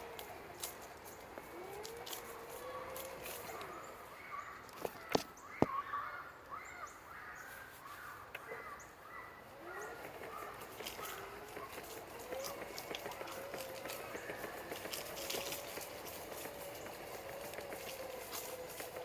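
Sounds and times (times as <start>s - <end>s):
footsteps crunching dry leaves: 0.0s - 6.1s, 7.1s - 8.8s, 9.5s - 19.0s
birds calling: 0.0s - 19.0s.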